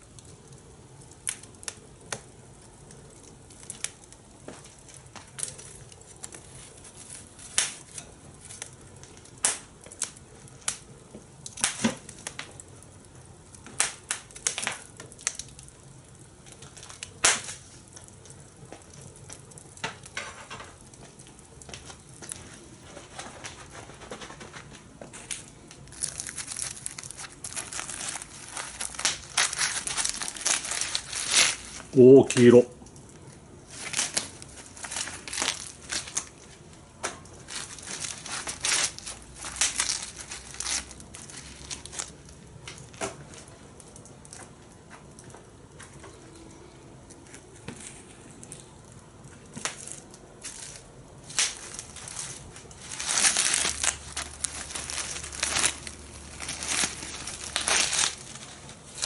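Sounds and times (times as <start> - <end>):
fire crackling and popping: 0.0 - 59.0
low steady hiss: 0.0 - 59.0
dense crinkling rustle: 3.1 - 15.8, 16.4 - 59.0.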